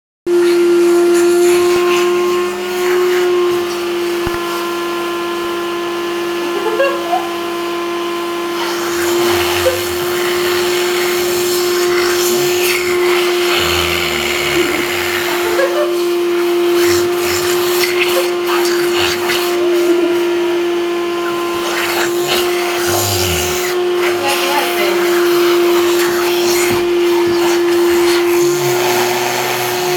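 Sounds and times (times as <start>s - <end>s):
vacuum cleaner running: 0.3s - 29.9s.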